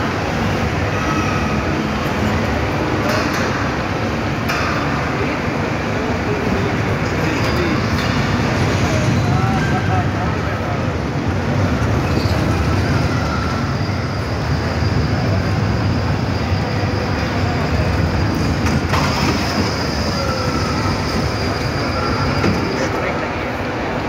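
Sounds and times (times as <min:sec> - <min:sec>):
roller coaster rumbling on track: 0:00.0 - 0:24.0.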